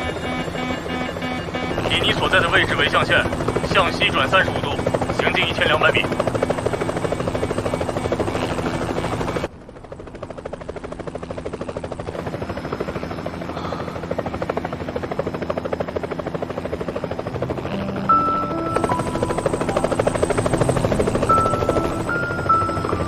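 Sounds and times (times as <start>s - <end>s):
helicopter rotor chopping: 0.0s - 23.0s.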